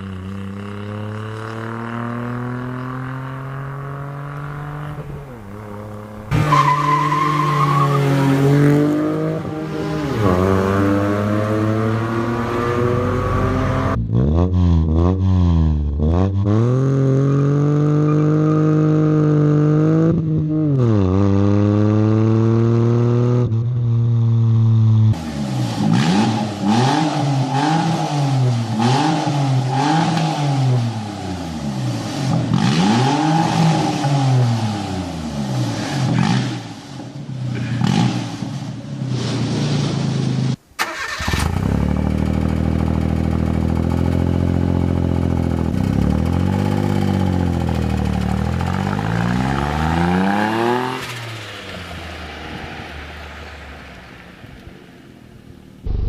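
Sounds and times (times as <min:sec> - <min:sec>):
car engine revving: 0:00.0 - 0:23.6, 0:24.6 - 0:39.3, 0:40.8 - 0:54.7.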